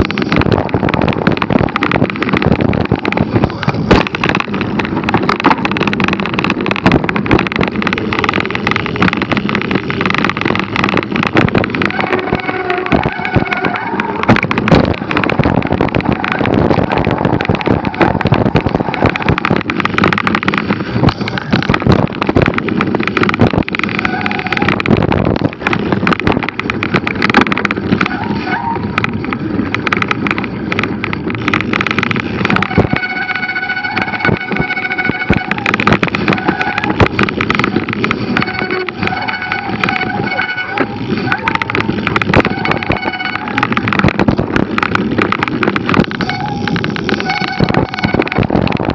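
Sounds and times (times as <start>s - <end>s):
bike rattling over rough trail: 0.0s - 48.9s
steady whine: 0.0s - 48.9s
wind on microphone: 0.0s - 48.9s.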